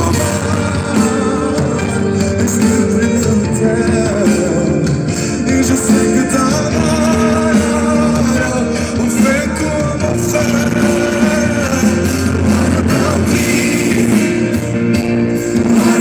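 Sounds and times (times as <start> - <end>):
electric guitar: 0.0 - 16.0
live pop-rock band: 0.0 - 16.0
person singing: 0.0 - 16.0.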